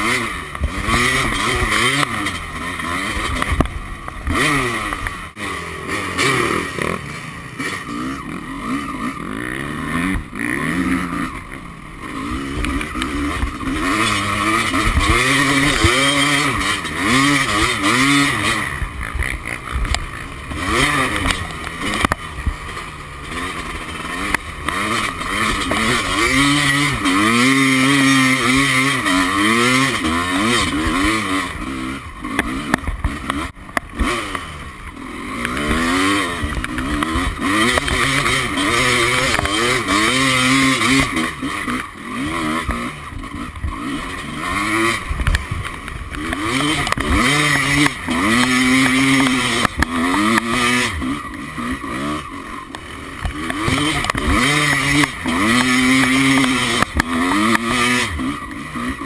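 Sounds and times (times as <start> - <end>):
two-stroke motocross bike revving: 0.0 - 59.0.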